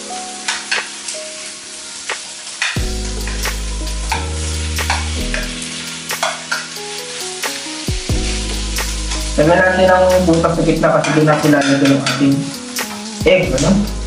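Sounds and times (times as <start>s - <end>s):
food sizzling on hot plate: 0.0s - 14.0s.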